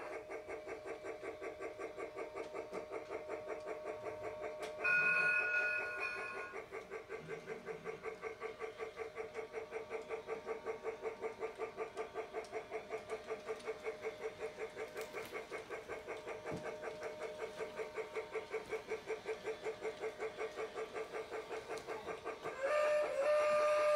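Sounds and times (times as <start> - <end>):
toy train chugging: 0.0 - 23.9.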